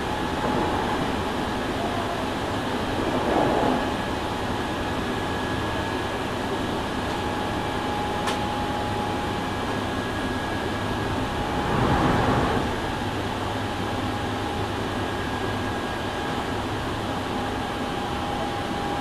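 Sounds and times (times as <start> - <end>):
electric train interior rumble: 0.0 - 19.0.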